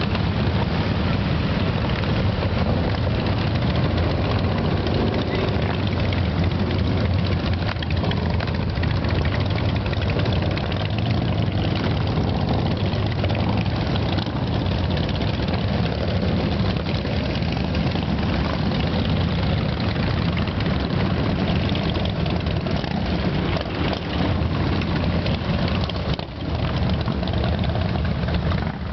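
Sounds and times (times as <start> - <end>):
motorcycle engines idling: 0.0 - 28.9.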